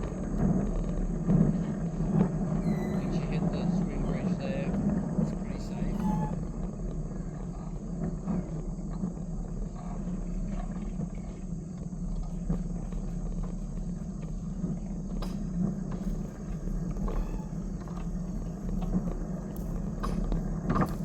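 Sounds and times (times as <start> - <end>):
train engine rumbling: 0.0 - 21.0.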